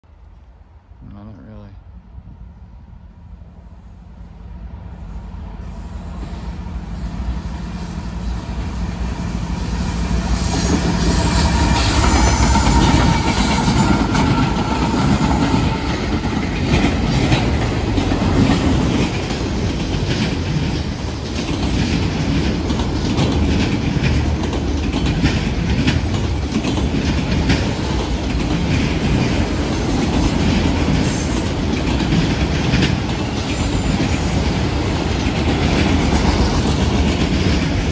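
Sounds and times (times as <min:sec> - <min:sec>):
diesel locomotive engine drone: 0:00.0 - 0:37.9
train wheels clicking over rail joints: 0:06.0 - 0:37.9.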